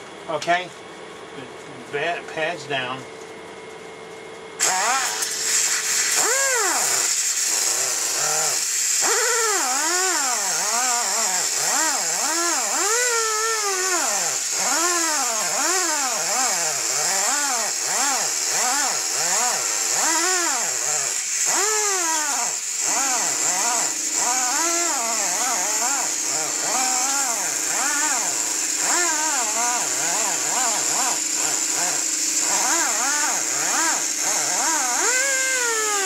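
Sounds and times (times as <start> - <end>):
pneumatic air sander on metal: 4.6 - 36.0.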